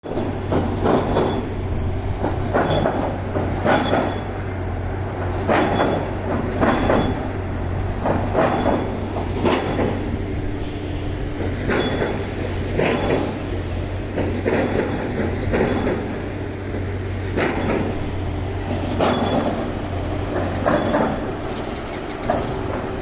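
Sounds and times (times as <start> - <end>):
train low rumble: 0.0 - 23.0
train wheels clattering: 0.0 - 23.0.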